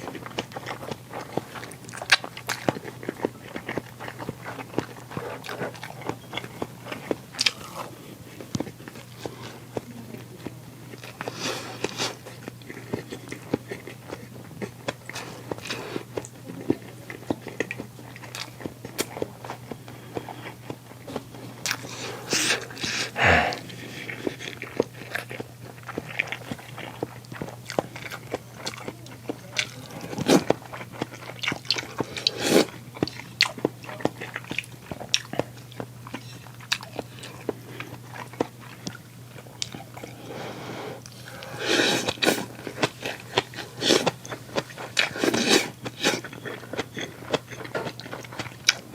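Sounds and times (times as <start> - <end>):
faint low hum: 0.0 - 48.9
person chewing and crunching food: 0.0 - 48.9.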